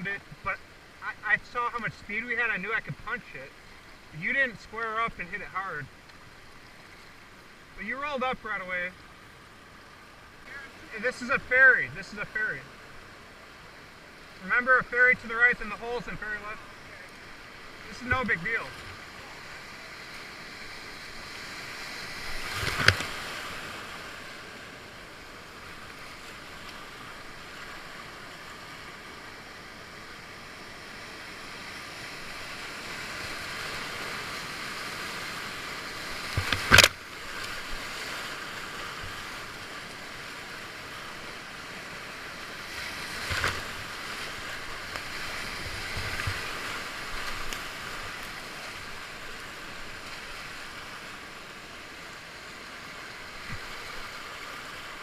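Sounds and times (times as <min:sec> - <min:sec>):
river rapids rushing: 0:07.2 - 0:55.0.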